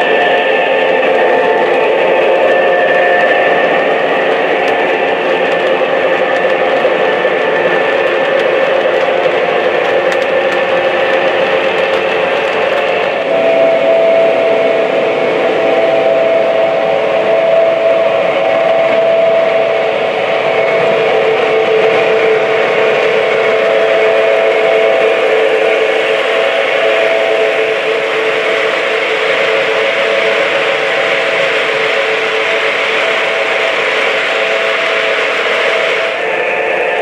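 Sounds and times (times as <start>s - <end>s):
held tone: 0.0s - 32.0s
electronic diesel engine sound: 0.0s - 37.0s
wheels rolling on rail: 0.0s - 37.0s.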